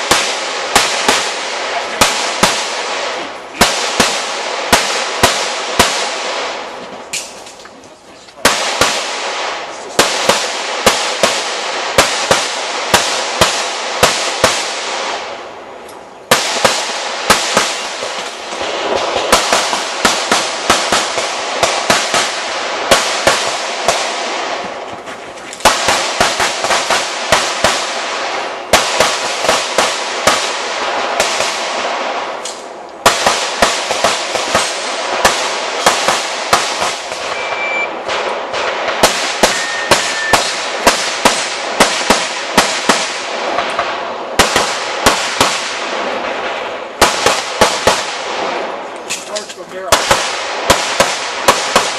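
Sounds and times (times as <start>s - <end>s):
pistol shots: 0.0s - 7.4s, 8.4s - 15.5s, 16.3s - 24.9s, 25.6s - 51.9s.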